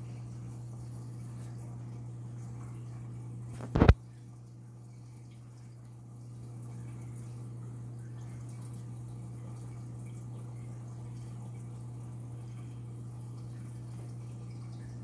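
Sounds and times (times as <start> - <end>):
aquarium equipment humming: 0.0 - 15.0
trickling and dripping water: 0.0 - 15.0.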